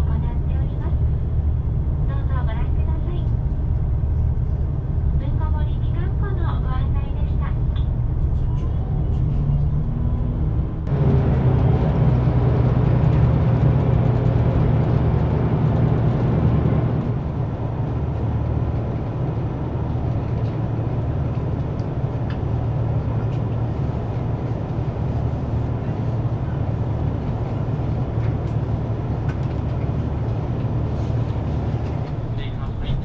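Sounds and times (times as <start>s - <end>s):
train engine hum: 0.0s - 33.0s
wheels rumbling on track: 0.0s - 33.0s.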